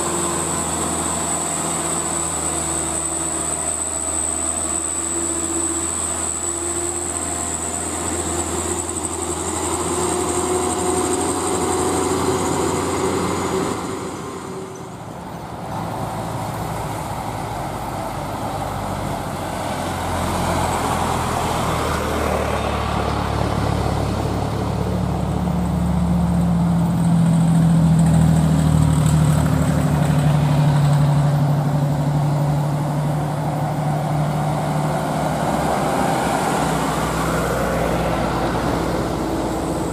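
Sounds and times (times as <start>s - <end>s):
truck diesel engines droning: 0.0s - 39.9s
tyre noise on road: 0.0s - 39.9s.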